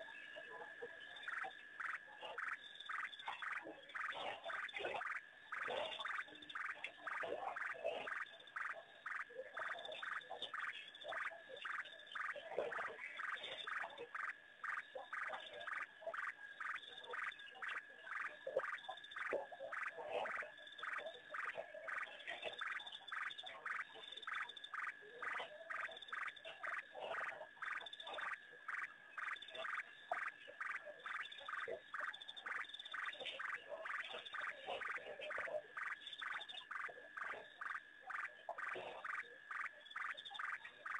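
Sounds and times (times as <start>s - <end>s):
frogs calling: 0.0s - 40.9s.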